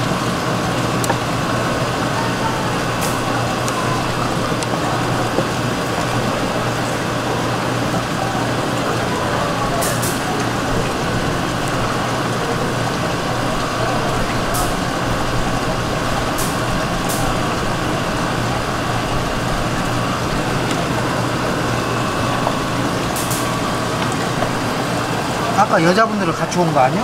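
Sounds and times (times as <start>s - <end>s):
busy market din: 0.0s - 27.0s
low machine hum: 0.0s - 27.0s.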